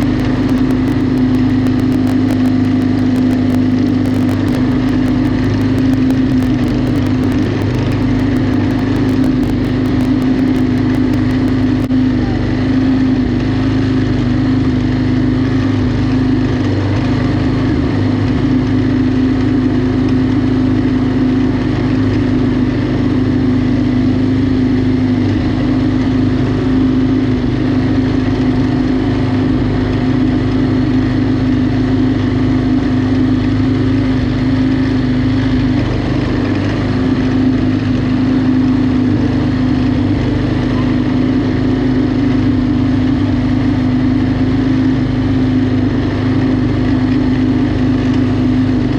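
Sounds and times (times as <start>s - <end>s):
lawn mower engine running: 0.0s - 48.9s.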